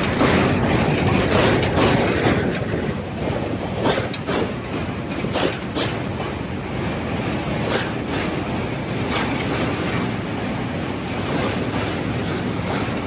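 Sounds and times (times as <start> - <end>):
train rumbling over steel bridge: 0.0 - 13.0
wheels clacking over rail joints: 0.0 - 13.0.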